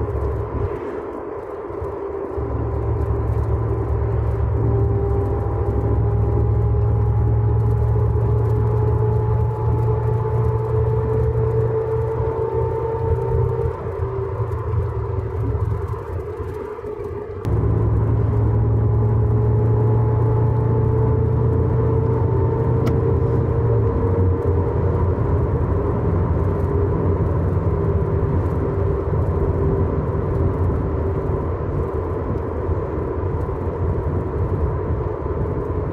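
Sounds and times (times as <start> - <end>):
car engine: 0.0 - 35.9
rear differential whine: 0.0 - 35.9
road rumble: 0.0 - 35.9.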